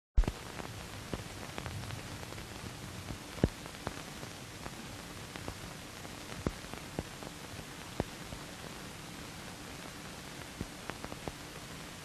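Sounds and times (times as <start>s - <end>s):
film soundtrack surface hiss: 0.2s - 12.0s.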